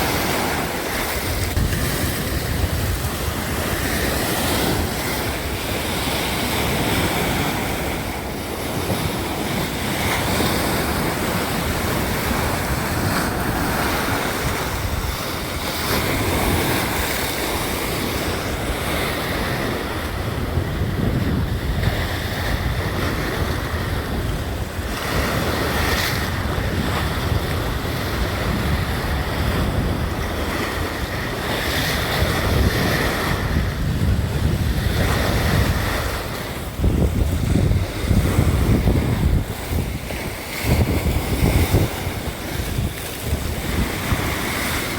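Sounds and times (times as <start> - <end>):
sea waves breaking on shore: 0.0 - 44.9
wind buffeting microphone: 0.0 - 44.9.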